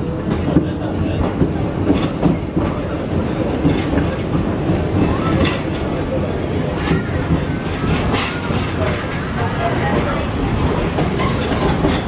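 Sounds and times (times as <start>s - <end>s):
subway train rumbling on rails: 0.0s - 12.0s
wheels clacking over rail joints: 0.2s - 12.0s.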